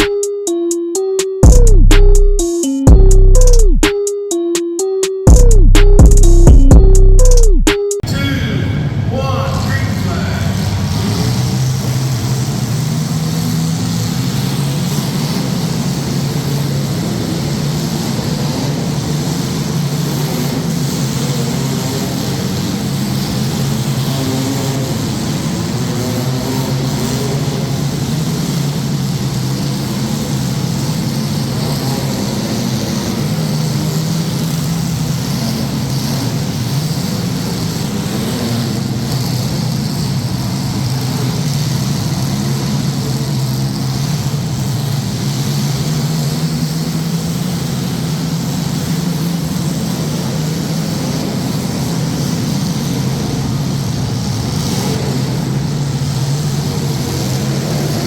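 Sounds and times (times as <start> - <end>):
car engines revving together: 8.9 - 58.0.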